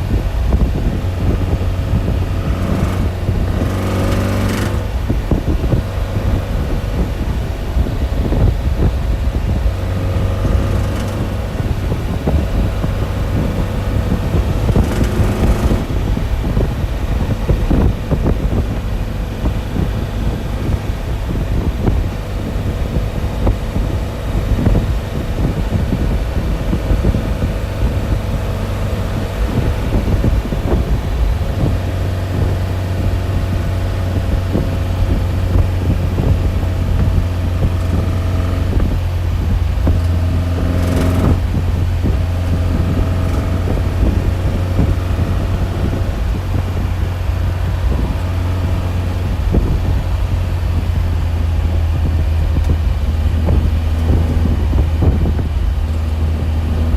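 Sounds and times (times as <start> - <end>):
motor humming with low rumble: 0.0 - 56.9.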